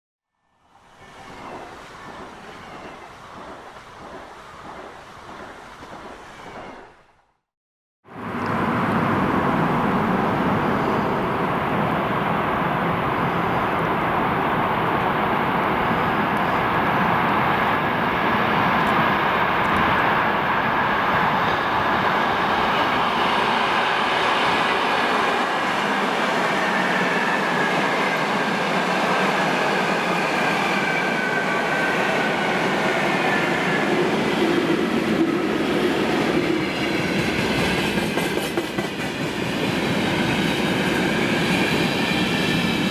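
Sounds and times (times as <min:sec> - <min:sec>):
freight train rolling past: 0:00.8 - 0:07.0, 0:08.1 - 0:42.9.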